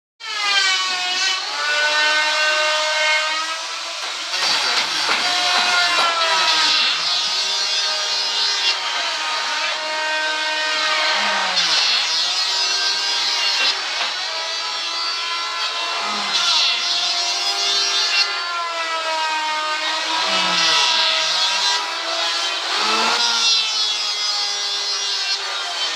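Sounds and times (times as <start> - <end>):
power tool cutting wood: 0.2 - 25.9.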